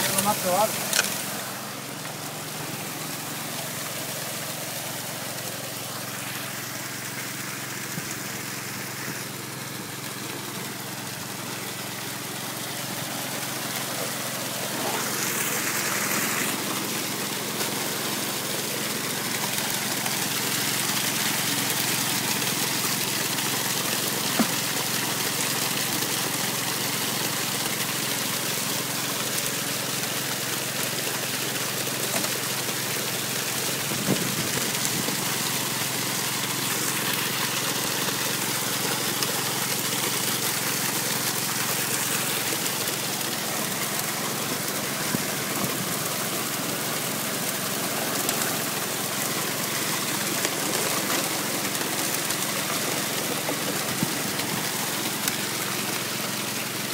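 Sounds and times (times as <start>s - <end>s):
water and slurry pouring through sluice: 0.0s - 56.9s
water pump engine running: 0.0s - 56.9s.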